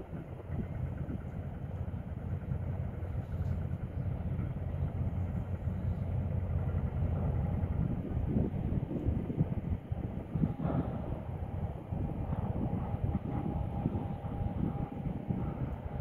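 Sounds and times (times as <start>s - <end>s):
low engine rumble: 0.0s - 16.0s
wind buffeting microphone: 0.0s - 16.0s.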